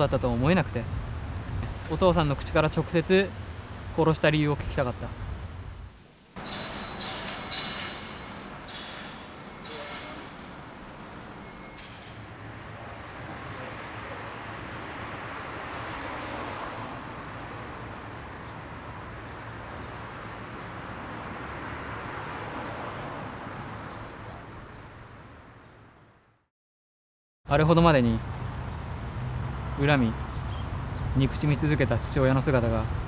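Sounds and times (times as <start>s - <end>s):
road traffic noise: 0.0s - 26.4s, 27.5s - 33.0s.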